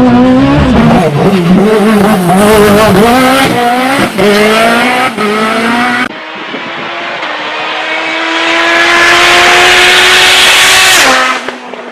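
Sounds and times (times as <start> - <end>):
race car engine at high revs: 0.0 - 11.9.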